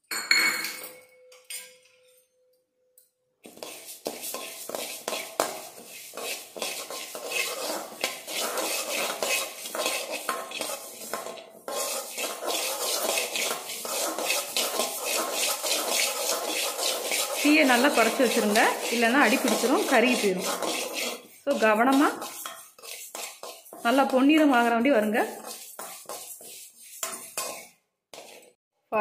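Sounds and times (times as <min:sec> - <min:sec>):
spatula scraping metal pan: 0:03.4 - 0:28.6.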